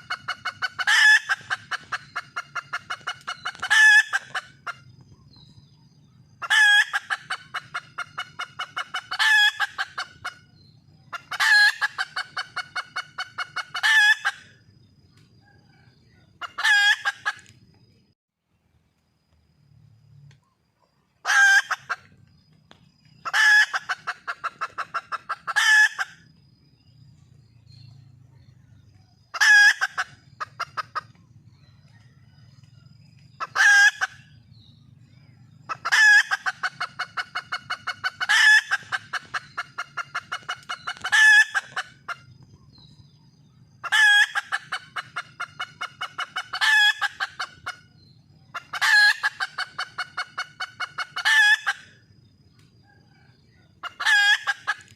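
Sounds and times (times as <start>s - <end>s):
junglefowl hen cackling: 0.0s - 17.6s, 21.2s - 22.3s, 23.2s - 26.4s, 28.4s - 34.5s, 35.6s - 42.9s, 43.6s - 52.2s, 52.8s - 54.9s.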